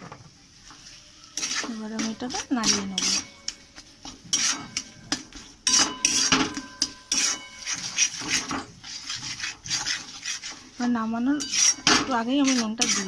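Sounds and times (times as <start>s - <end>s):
spatula scraping metal pan: 0.8s - 13.0s.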